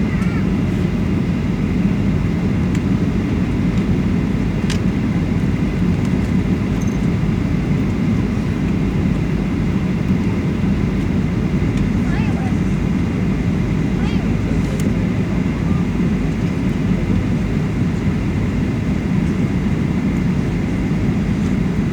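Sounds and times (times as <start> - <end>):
jet engines and airflow rushing: 0.0 - 21.9.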